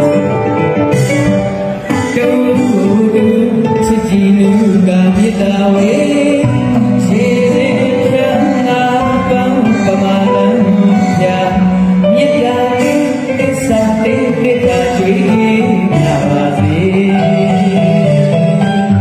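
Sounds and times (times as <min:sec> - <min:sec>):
live band playing: 0:00.0 - 0:19.0
man singing into microphone: 0:01.7 - 0:19.0.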